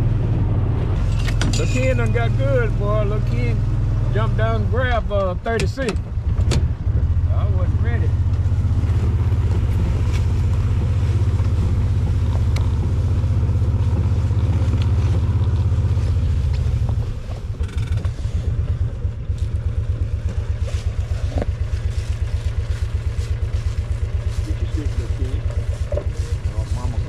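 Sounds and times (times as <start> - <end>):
vehicle engine running and idling: 0.0 - 27.0.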